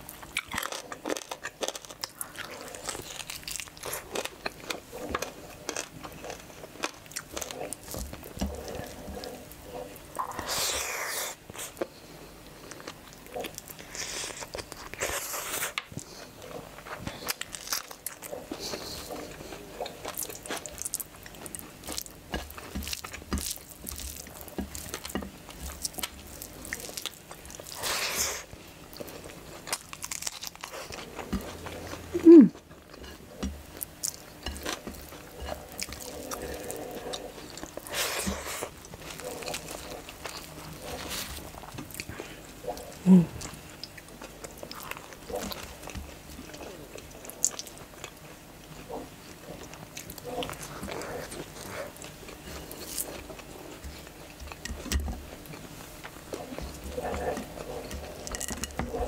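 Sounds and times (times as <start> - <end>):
wet chewing and crunching: 0.0 - 59.0.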